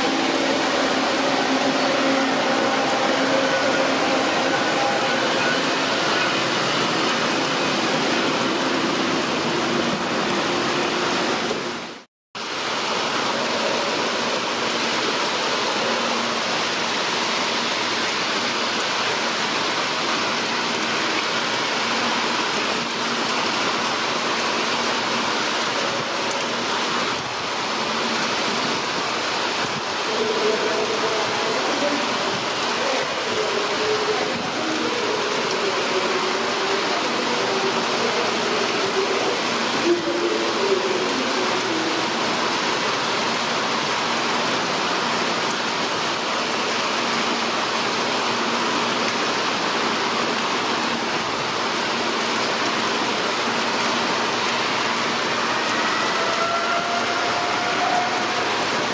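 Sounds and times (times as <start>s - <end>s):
rain: 0.0s - 58.9s.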